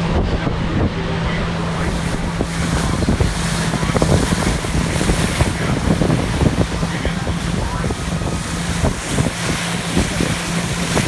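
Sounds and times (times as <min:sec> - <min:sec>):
wind buffeting microphone: 0:00.0 - 0:11.0
boat motor running: 0:01.1 - 0:11.0.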